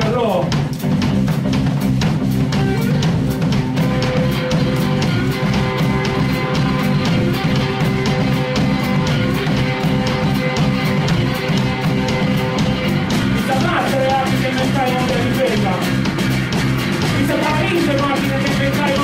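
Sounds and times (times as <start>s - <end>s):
drum kit with cymbals: 0.0s - 19.0s
electric guitars: 0.0s - 19.0s.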